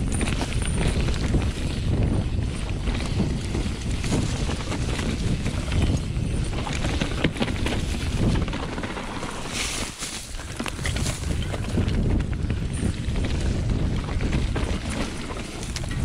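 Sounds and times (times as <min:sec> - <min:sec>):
bike rattling with small clicks: 0:00.0 - 0:16.0
wind rumbling on microphone: 0:00.0 - 0:16.0
tyres rolling over dirt and leaves: 0:02.6 - 0:16.0.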